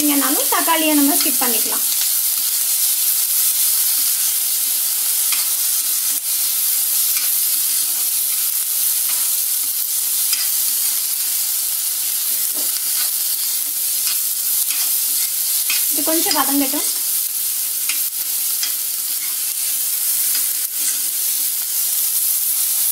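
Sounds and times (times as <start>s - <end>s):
onion and tomato sizzling: 0.0s - 22.9s.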